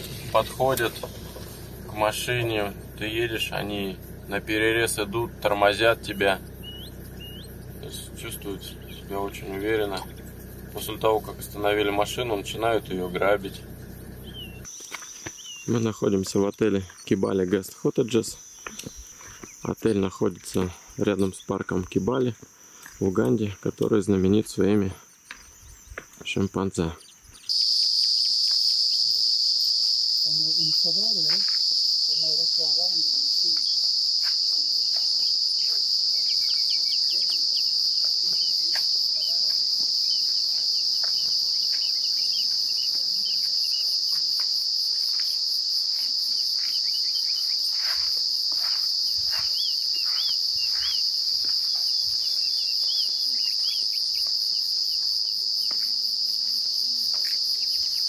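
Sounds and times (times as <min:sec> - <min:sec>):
short insect chirps: 0:00.0 - 0:17.4, 0:27.0 - 0:58.0
insect chorus trilling: 0:00.0 - 0:58.0.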